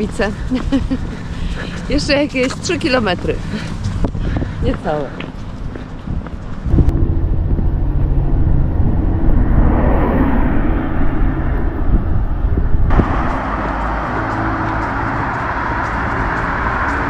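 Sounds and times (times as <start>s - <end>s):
vehicle engine hum and tyre noise: 0.0s - 17.0s.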